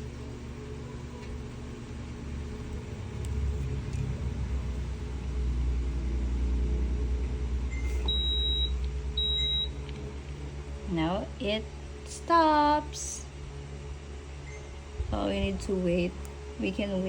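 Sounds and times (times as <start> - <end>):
capsule machine pump humming: 0.0 - 17.0.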